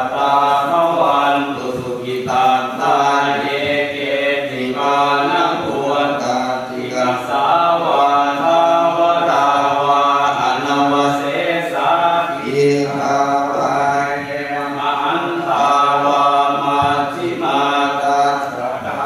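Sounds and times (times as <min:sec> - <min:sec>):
voices chanting: 0:00.0 - 0:19.0.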